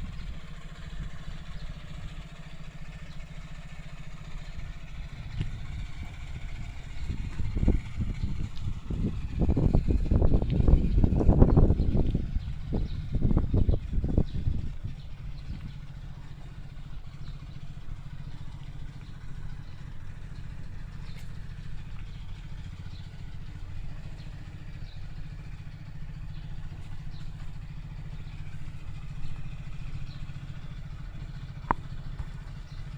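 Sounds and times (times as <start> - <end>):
small car engine idling: 0.0 - 32.9.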